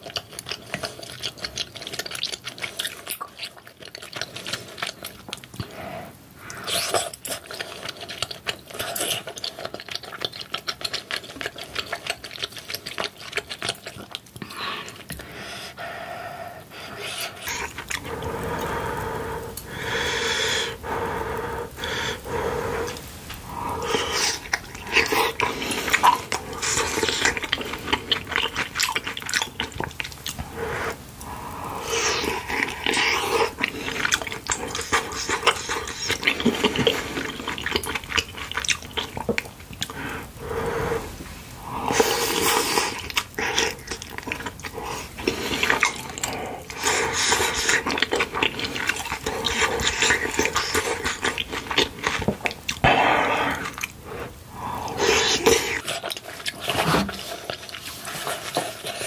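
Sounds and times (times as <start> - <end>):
slurping: 0.0 - 59.0
wet chewing and smacking: 0.0 - 59.0.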